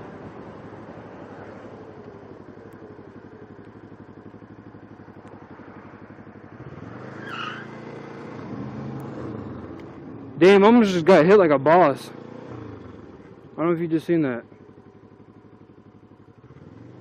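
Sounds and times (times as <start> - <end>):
motorcycle engine slowing: 0.0 - 17.0
steady engine hum: 0.0 - 17.0.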